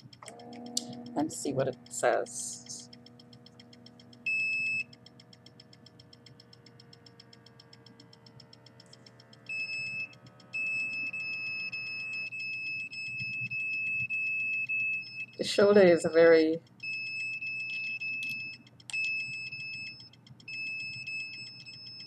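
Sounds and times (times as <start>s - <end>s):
electronic beeping: 0.0s - 22.0s
fast even ticking: 0.0s - 22.0s.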